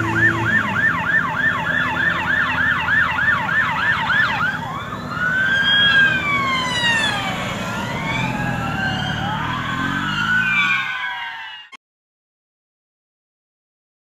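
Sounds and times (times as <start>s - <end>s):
vehicle engines running: 0.0s - 11.5s
police sirens wailing: 0.0s - 11.8s.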